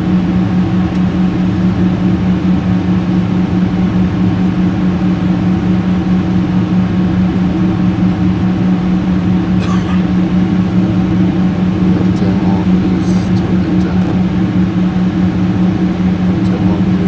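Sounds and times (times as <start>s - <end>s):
jet airliner cabin drone: 0.0s - 17.0s.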